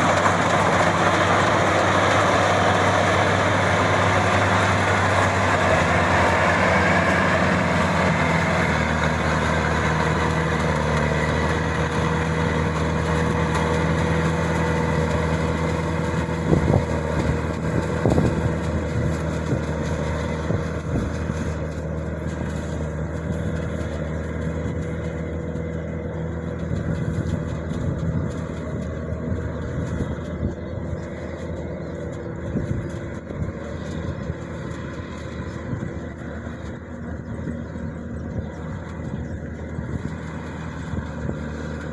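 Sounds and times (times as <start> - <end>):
combine harvester engine running: 0.0 - 41.9.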